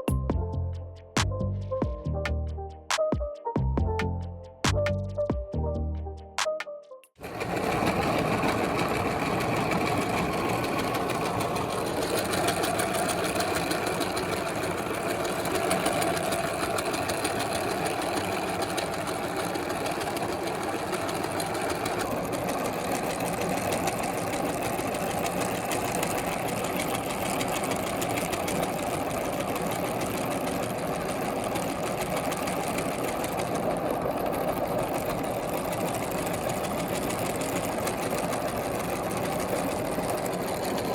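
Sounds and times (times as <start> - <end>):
meat grinder motor whirring: 7.2 - 40.9.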